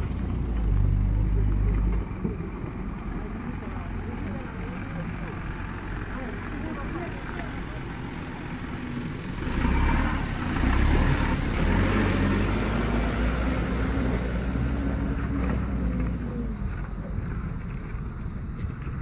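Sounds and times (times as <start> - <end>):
heavy truck engine under load: 0.0 - 19.0.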